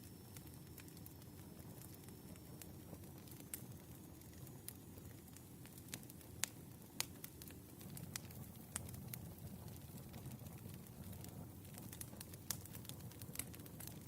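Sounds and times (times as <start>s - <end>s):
firewood crackling and popping: 0.0s - 14.0s
flames rumbling: 0.0s - 14.0s.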